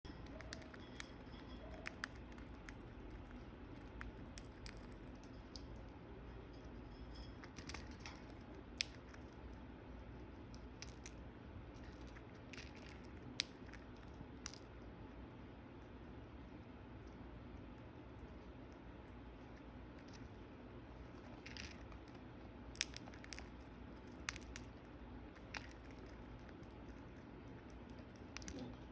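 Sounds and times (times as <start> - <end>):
bird pecking food: 0.1 - 28.9.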